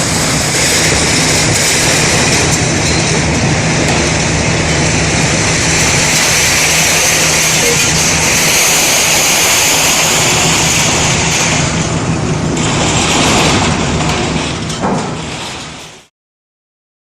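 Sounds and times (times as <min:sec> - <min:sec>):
diesel engine drone: 0:00.0 - 0:16.1
machinery clank: 0:00.0 - 0:16.1.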